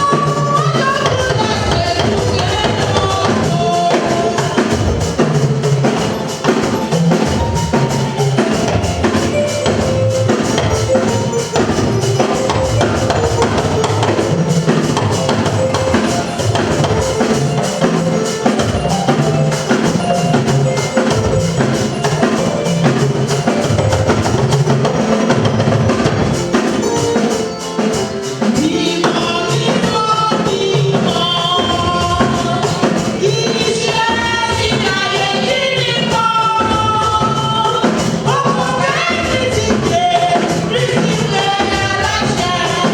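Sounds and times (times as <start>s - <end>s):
voices singing: 0.0s - 25.4s, 26.8s - 42.9s
church band music: 0.0s - 42.9s
drum kit beat: 0.0s - 42.9s.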